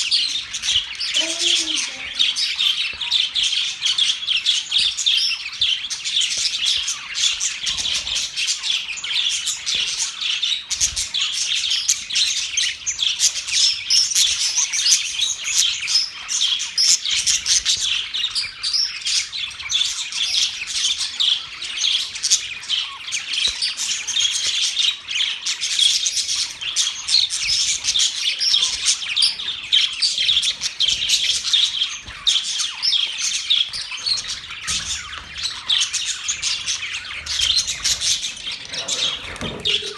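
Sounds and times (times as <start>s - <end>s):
budgerigars warbling and chirping: 0.0s - 39.9s.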